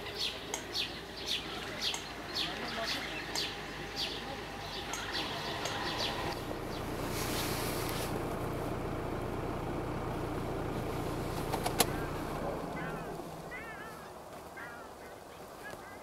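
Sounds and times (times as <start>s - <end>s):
low rumble with hiss: 0.0s - 14.6s
birds chirping: 0.0s - 16.0s.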